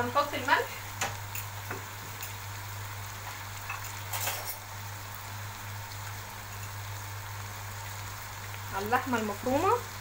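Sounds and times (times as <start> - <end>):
meat and onions sizzling: 0.0 - 10.0.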